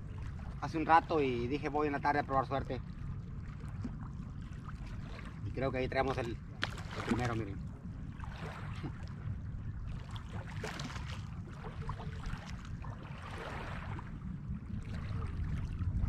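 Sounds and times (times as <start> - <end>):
small waves lapping at shore: 0.0 - 16.0
wind rumbling on microphone: 0.0 - 16.0.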